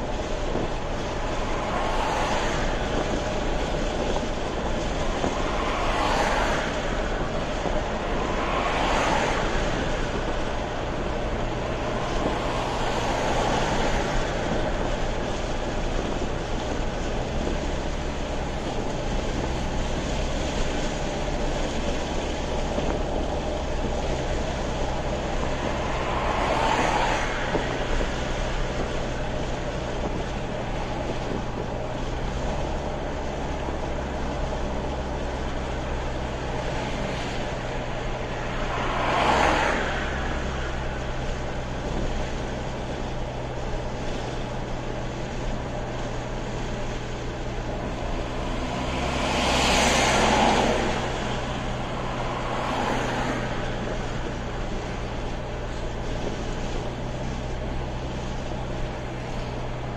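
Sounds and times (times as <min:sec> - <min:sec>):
car road and engine drone: 0:00.0 - 0:59.9
passing vehicle whoosh: 0:00.0 - 0:59.9.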